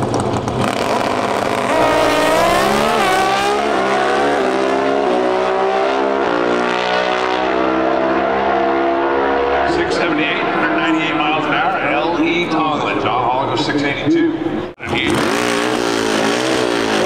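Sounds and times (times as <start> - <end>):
motorcycle engines at full throttle: 0.0 - 12.0, 14.8 - 17.0.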